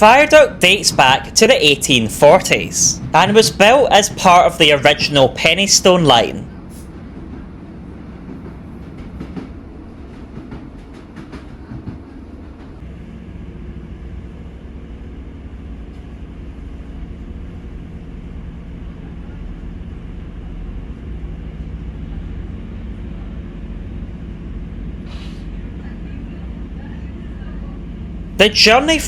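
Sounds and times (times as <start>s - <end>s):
diesel engine rumble: 0.0s - 9.4s, 12.7s - 29.0s
train wheels on track: 0.0s - 29.0s.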